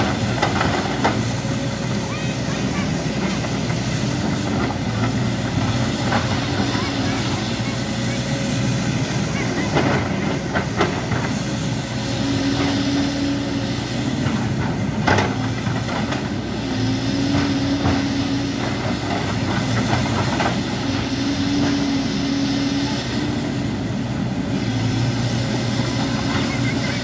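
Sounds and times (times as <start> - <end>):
bucket and tracks clanking: 0.0 - 27.0
excavator diesel engine running: 0.0 - 27.0
hydraulics humming under load: 0.0 - 27.0.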